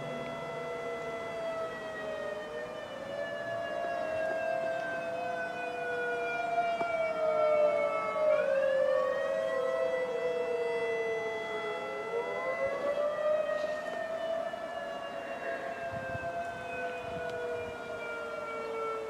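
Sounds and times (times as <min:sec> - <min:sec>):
electronic siren: 0:00.0 - 0:19.0
tornado warning sirens wailing: 0:00.0 - 0:19.0.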